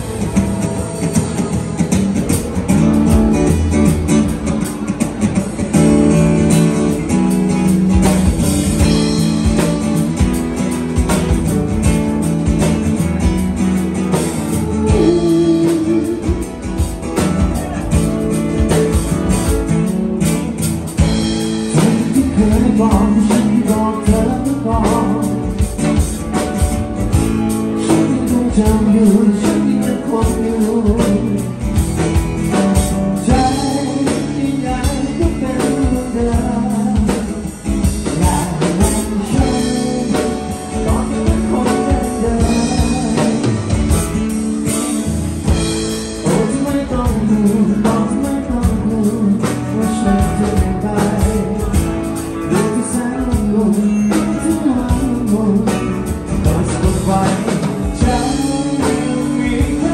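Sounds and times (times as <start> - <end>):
acoustic guitar: 0.0 - 59.9
drum kit: 0.0 - 59.9
man singing: 2.3 - 59.9.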